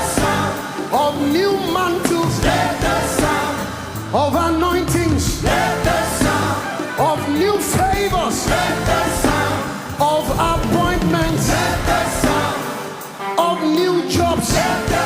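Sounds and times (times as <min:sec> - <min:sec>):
band accompaniment: 0:00.0 - 0:15.0
person singing: 0:00.0 - 0:15.0.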